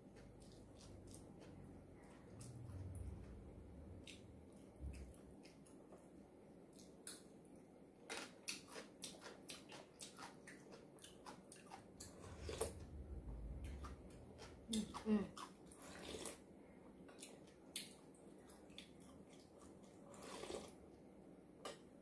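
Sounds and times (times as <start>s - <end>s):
person chewing: 0.0s - 6.1s, 8.0s - 20.8s.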